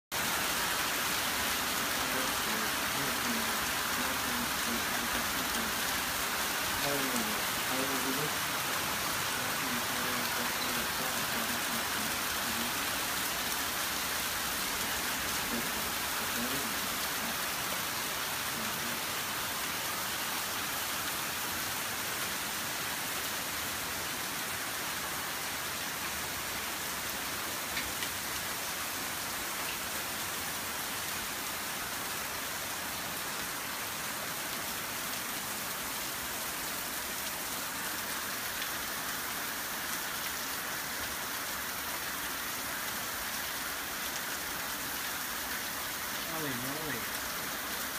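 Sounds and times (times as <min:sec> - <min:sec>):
torrential rain pouring: 0:00.1 - 0:47.9.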